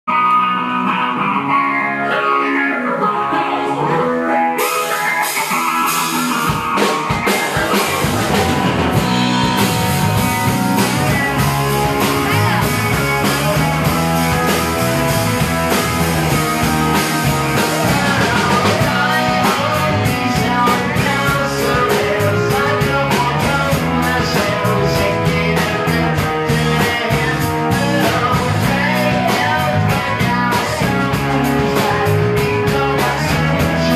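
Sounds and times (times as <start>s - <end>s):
bass guitar: 0.0s - 33.9s
electric guitar bending notes: 0.1s - 33.9s
drums and cymbals crashing: 4.6s - 33.9s.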